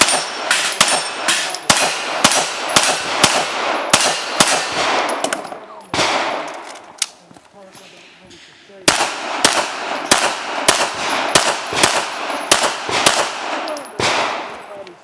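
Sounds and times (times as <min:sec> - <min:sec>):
pistol shots with echo: 0:00.0 - 0:06.9, 0:08.8 - 0:14.8.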